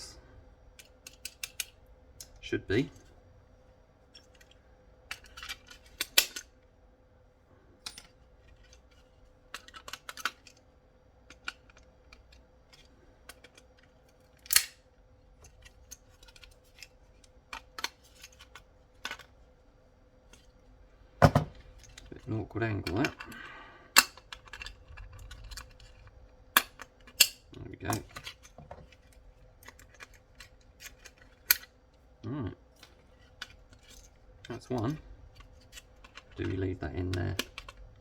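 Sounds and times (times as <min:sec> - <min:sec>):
faint steady hum: 0:00.0 - 0:38.0
plastic parts clicking and scraping: 0:00.7 - 0:03.1, 0:04.1 - 0:06.6, 0:07.7 - 0:19.5, 0:21.3 - 0:32.1, 0:32.7 - 0:38.0.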